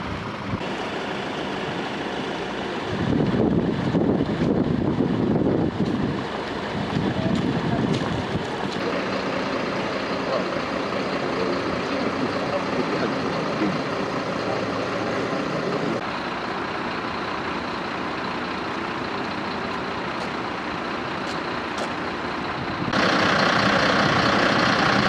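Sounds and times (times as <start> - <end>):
vehicle engines idling: 0.0 - 25.0.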